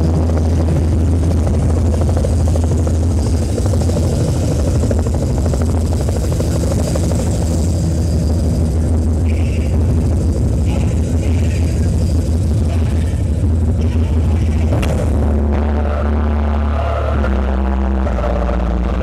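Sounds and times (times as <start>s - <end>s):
low rumble with deep hum: 0.0s - 19.0s.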